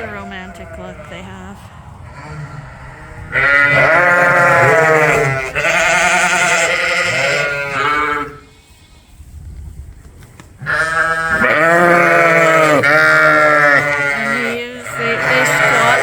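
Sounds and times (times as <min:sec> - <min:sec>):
sheep bleating: 0:00.0 - 0:01.5, 0:02.1 - 0:08.5, 0:10.7 - 0:16.0.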